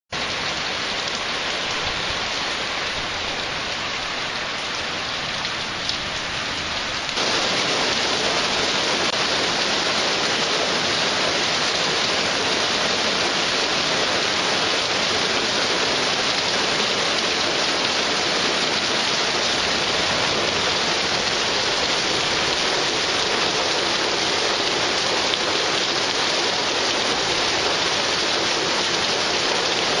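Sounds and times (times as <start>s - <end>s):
heavy rain hissing: 0.2s - 30.0s.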